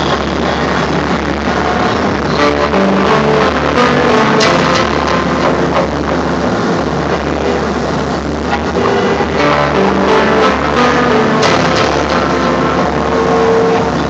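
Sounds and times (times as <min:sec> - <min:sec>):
low rumbling drone: 0:00.0 - 0:14.0
sharp hits: 0:00.0 - 0:14.0
sustained tones: 0:00.0 - 0:14.0.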